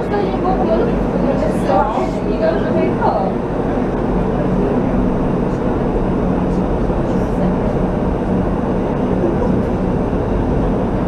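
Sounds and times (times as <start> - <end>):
funicular car running rumble: 0.0 - 11.0
indistinct voices: 0.0 - 11.0.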